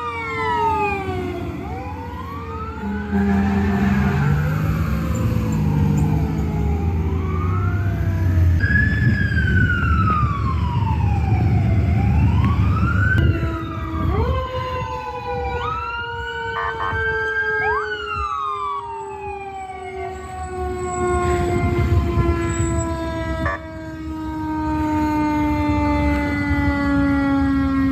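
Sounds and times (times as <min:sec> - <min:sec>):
fire engine siren wailing: 0:00.0 - 0:27.9
truck engine rumble: 0:00.1 - 0:27.7.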